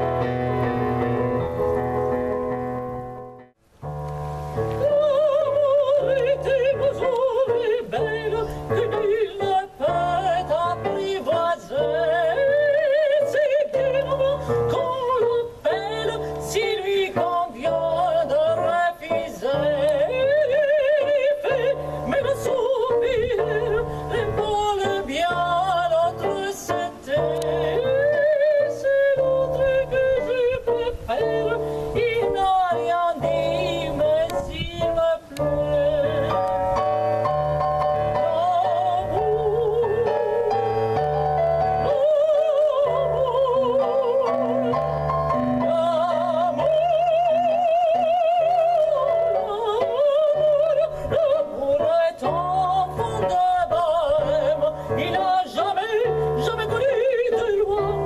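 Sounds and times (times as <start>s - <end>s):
live accompaniment chords: 0.0s - 58.0s
woman singing with vibrato: 4.6s - 58.0s.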